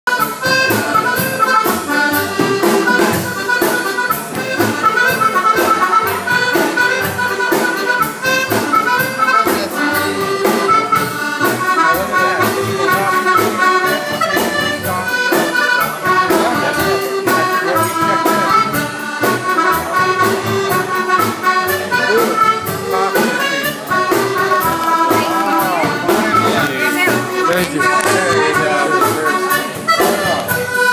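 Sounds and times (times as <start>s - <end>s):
drum kit beat: 0.1s - 30.9s
reedy melody line: 0.1s - 30.9s.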